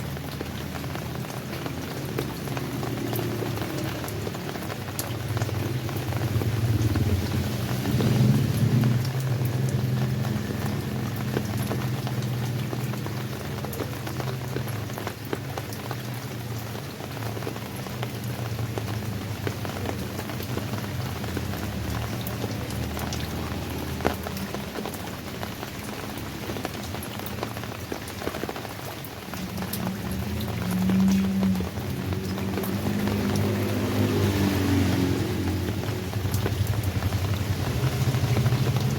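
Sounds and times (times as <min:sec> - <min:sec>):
raindrops pattering on a surface: 0:00.0 - 0:38.9.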